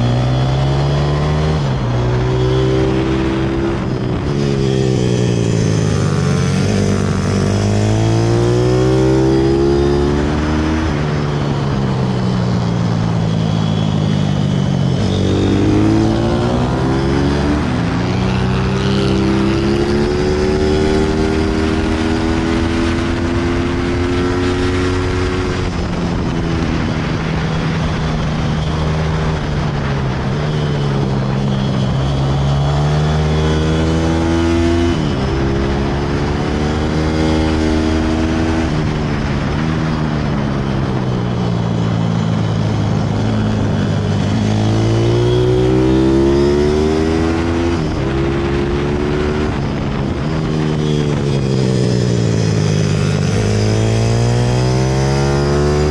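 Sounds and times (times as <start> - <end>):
motorbike engine revving: 0.0 - 55.9
wind rushing: 0.0 - 55.9.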